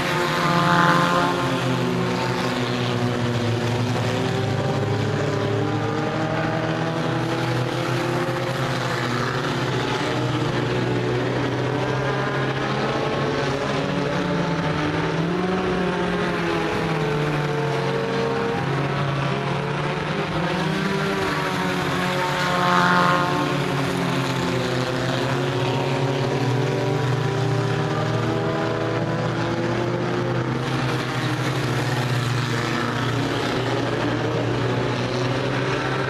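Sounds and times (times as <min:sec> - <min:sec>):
race car engines passing: 0:00.0 - 0:36.0.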